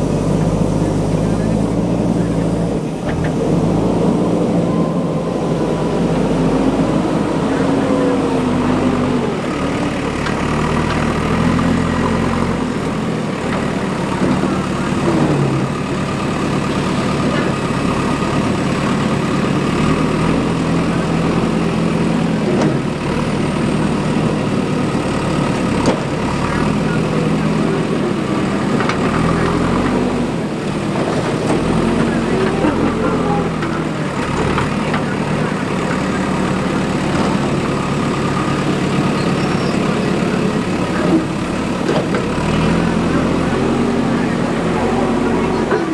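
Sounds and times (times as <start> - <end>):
backhoe diesel engine revving: 0.0 - 45.9.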